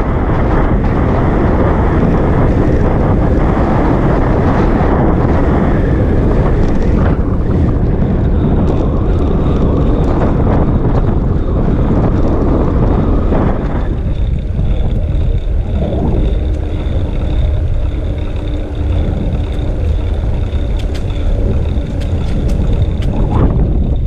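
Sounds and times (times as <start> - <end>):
road and tyre noise: 0.0 - 24.0
wind buffeting microphone: 0.0 - 24.0.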